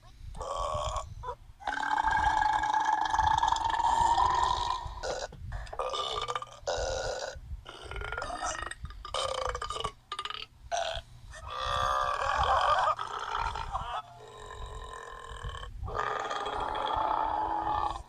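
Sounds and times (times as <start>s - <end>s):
person burping: 1.7s - 17.9s.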